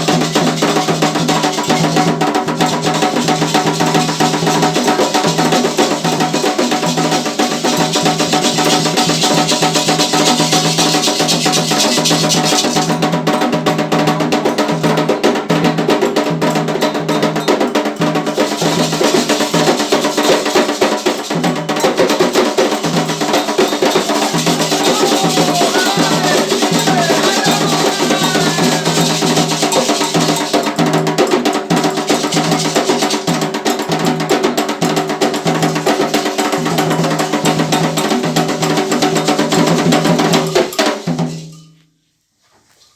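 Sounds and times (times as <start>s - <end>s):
clacking wood block percussion: 0.0s - 41.5s
hand drums beating: 0.0s - 41.5s.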